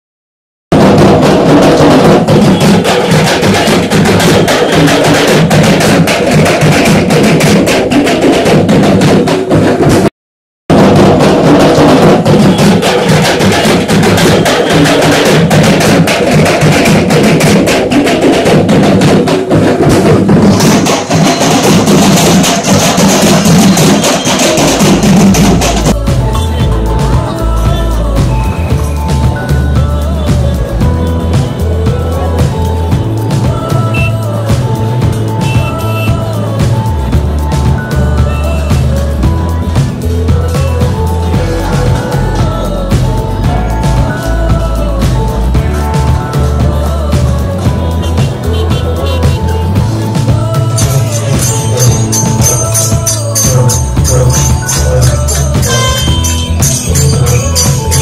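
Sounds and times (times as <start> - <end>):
loud drum-heavy music: 0.7 - 10.1, 10.7 - 58.0.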